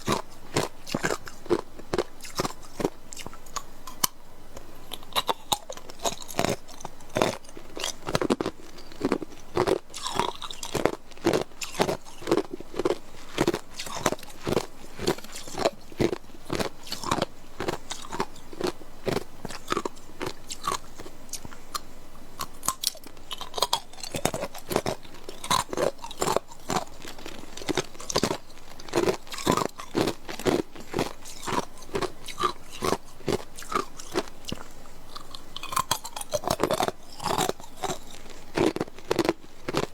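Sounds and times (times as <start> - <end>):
person crunching ice cubes: 0.0 - 4.2, 4.9 - 21.8, 22.4 - 39.9.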